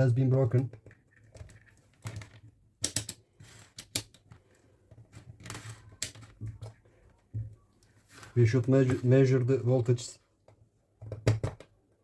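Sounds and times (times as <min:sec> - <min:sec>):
plastic objects clicking and knocking: 0:00.0 - 0:09.3, 0:10.4 - 0:12.0.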